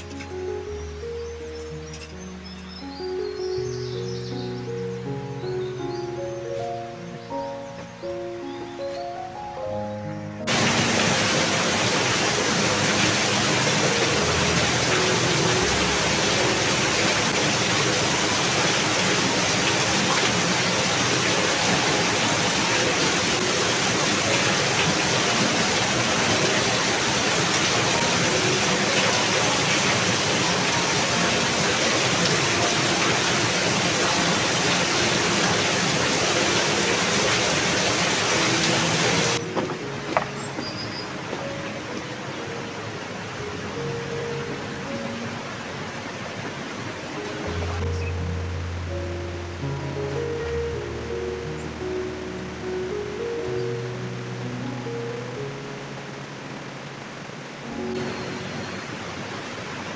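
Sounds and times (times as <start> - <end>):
stream running over rocks: 0.0 - 3.6, 10.4 - 59.9.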